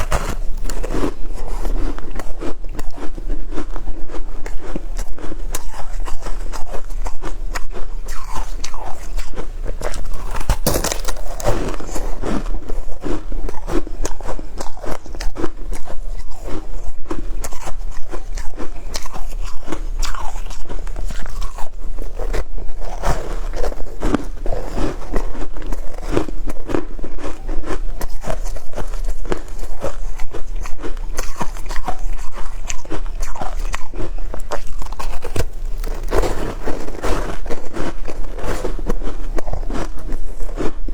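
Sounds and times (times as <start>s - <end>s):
ice being chewed crunching: 0.0s - 40.9s.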